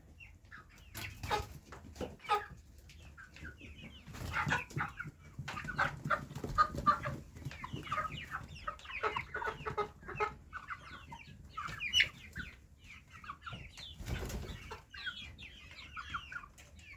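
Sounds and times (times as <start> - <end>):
baby chicks peeping: 0.0 - 16.9.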